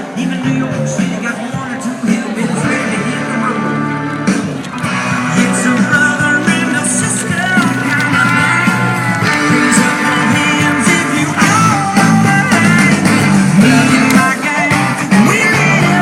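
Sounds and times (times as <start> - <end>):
rock song with singer and guitars: 0.0 - 16.0.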